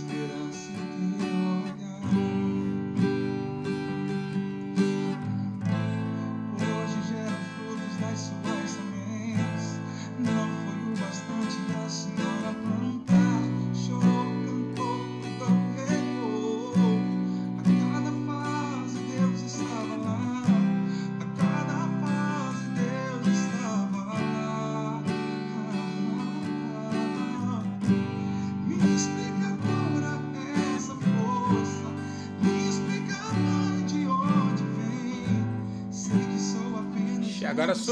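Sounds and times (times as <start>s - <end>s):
acoustic guitar strumming: 0.0s - 37.9s
person singing: 0.0s - 37.9s
recorded pop song: 0.0s - 37.9s.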